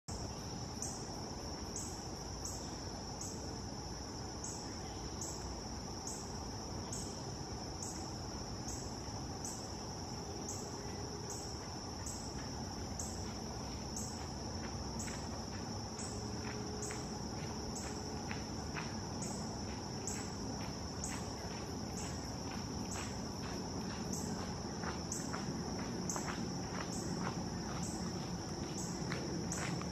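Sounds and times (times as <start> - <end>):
insects chirping: 0.1 - 29.9
low background noise: 0.1 - 29.9.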